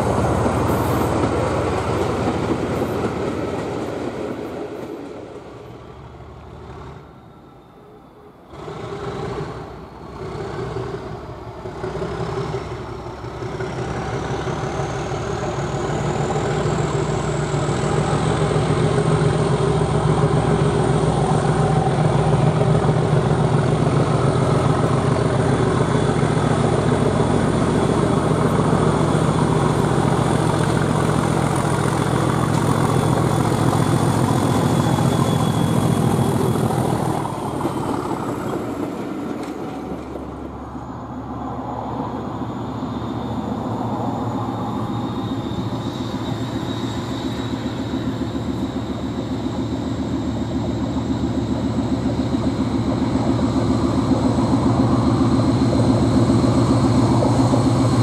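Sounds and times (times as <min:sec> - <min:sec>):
diesel locomotive engine working hard: 0:00.0 - 0:58.0
high engine whine: 0:00.0 - 0:58.0.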